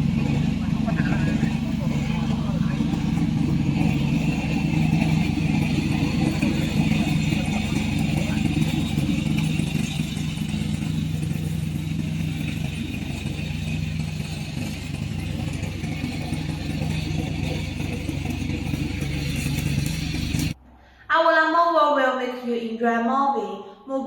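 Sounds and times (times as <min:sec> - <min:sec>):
lawn mower engine running: 0:00.0 - 0:20.6.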